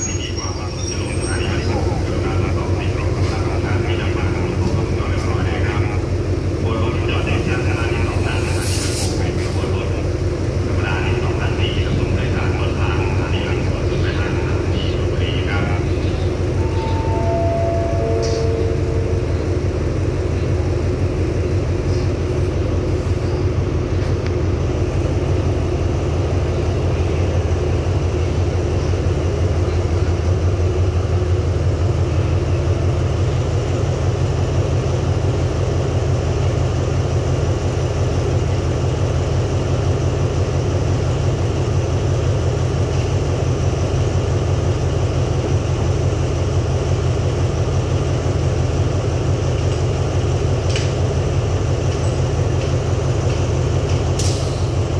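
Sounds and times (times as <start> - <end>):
diesel locomotive idling: 0.0 - 54.9.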